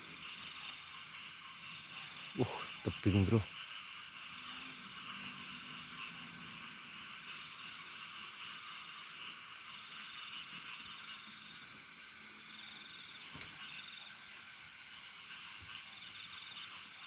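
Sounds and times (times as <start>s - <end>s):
fast-pulsing insect trill: 0.0s - 17.0s
night insects chirping: 0.0s - 17.0s.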